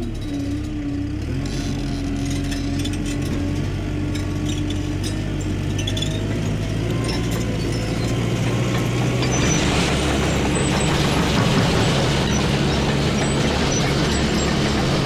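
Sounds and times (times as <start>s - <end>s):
bulldozer diesel engine working: 0.0s - 15.0s.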